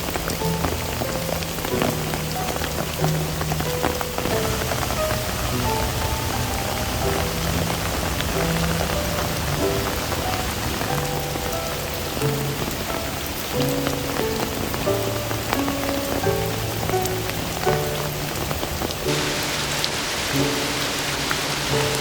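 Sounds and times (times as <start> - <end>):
raindrop ticks: 0.0 - 22.0
soft music with held notes: 0.0 - 22.0
steady rain falling: 0.0 - 22.0.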